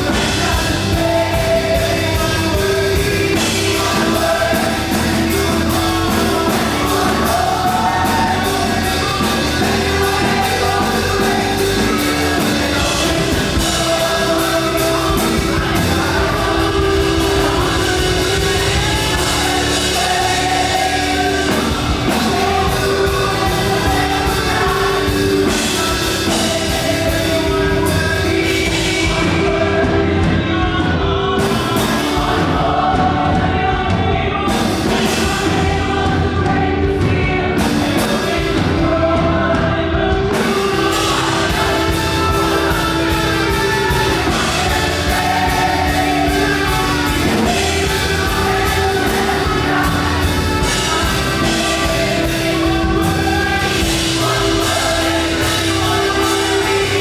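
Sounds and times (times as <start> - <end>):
full band with drums: 0.0 - 57.0
voices singing gospel together: 0.0 - 57.0.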